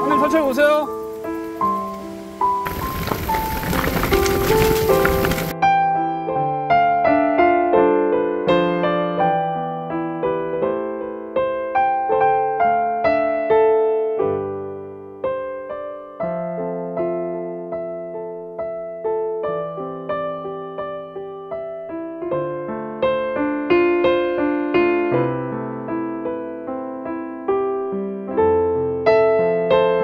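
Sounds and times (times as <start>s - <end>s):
slow keyboard melody: 0.0s - 2.7s, 5.5s - 30.0s.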